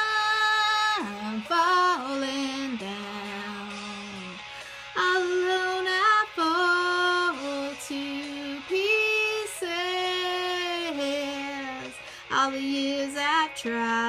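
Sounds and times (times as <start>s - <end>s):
woman singing wordless notes: 0.0s - 4.4s, 5.0s - 14.0s.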